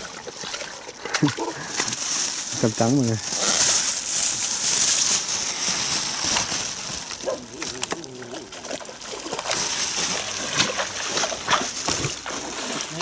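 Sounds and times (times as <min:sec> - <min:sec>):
water splashing underfoot: 0:00.0 - 0:13.0.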